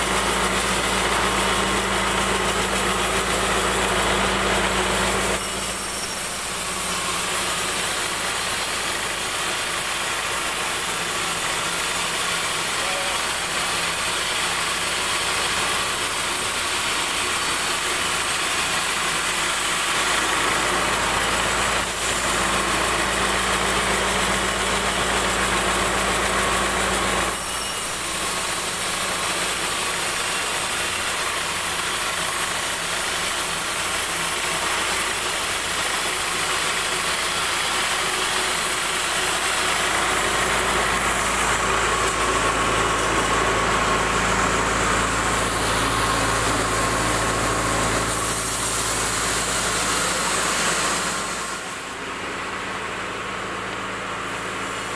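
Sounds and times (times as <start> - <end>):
band saw cutting wood: 0.0 - 54.9.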